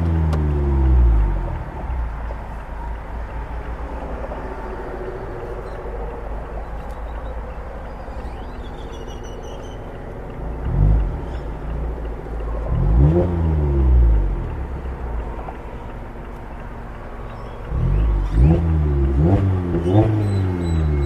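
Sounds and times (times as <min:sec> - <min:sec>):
car engine at low revs: 0:00.0 - 0:21.0.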